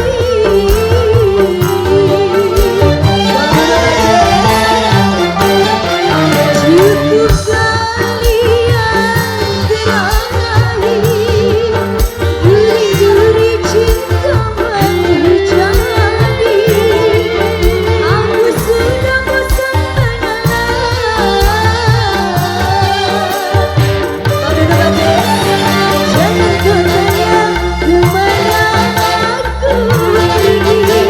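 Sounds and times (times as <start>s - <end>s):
live band music: 0.0s - 31.0s.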